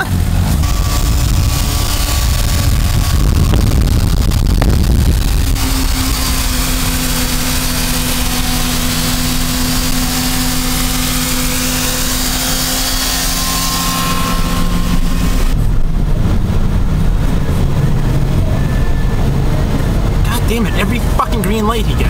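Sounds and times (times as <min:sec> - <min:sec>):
engine drone: 0:00.0 - 0:22.0
loud wind and road noise: 0:00.0 - 0:22.0.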